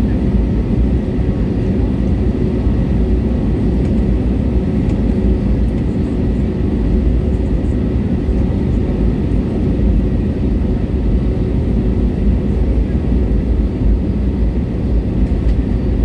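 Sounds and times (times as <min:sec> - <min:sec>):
jet engines heard from cabin: 0:00.0 - 0:16.0.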